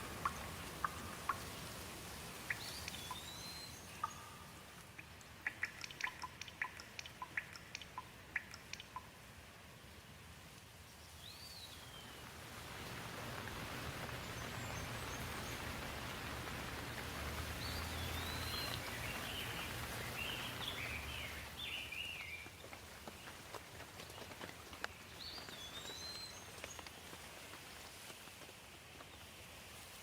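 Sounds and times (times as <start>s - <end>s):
rain hiss: 0.0s - 30.0s
songbirds chirping: 0.0s - 30.0s.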